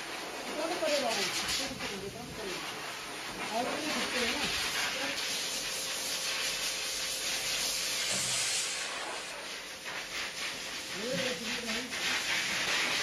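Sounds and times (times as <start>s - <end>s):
shower spraying water: 0.0s - 13.0s.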